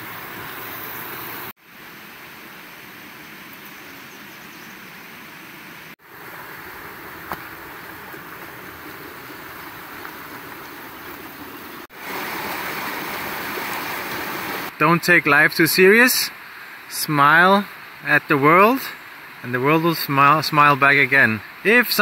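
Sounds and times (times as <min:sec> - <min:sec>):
creek water rushing over rocks: 0:00.0 - 0:03.3, 0:05.5 - 0:22.0.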